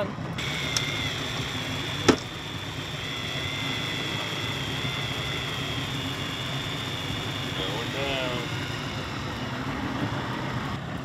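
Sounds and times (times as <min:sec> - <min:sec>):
low engine hum: 0:00.0 - 0:11.0
fishing reel spool whirring: 0:00.4 - 0:11.0.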